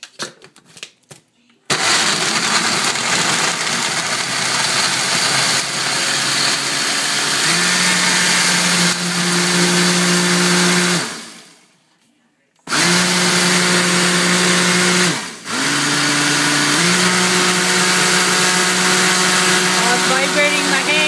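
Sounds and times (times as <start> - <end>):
blender churning: 1.7 - 11.6, 12.7 - 21.0
blender winding down: 1.7 - 11.6, 12.7 - 21.0.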